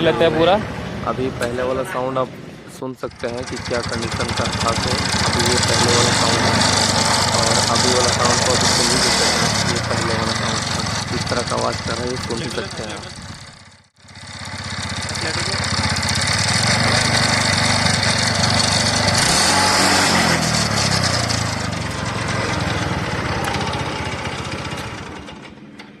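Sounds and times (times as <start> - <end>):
scooter engine harsh mechanical noise: 2.4 - 26.0.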